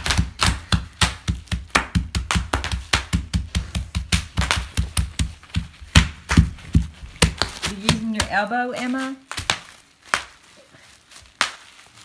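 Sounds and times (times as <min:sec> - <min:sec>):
bubble wrap popping: 0:00.0 - 0:12.0.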